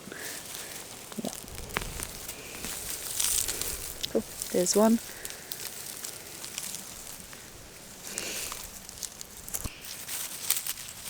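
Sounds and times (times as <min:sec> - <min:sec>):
dry plants and soil crackling: 0:00.0 - 0:11.0.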